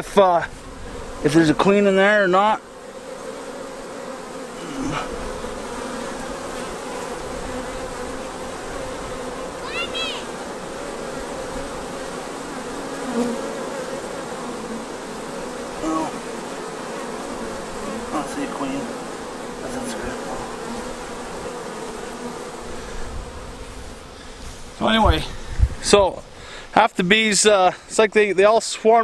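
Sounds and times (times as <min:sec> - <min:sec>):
bee swarm buzzing: 0:00.0 - 0:27.5.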